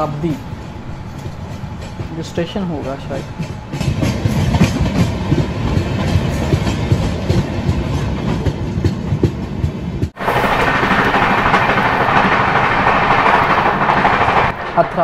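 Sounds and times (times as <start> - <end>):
rushing of moving train: 0.0 - 15.0.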